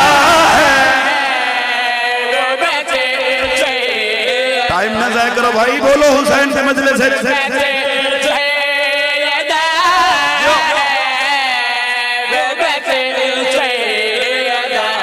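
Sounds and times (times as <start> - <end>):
men chanting through microphones: 0.0 - 15.0.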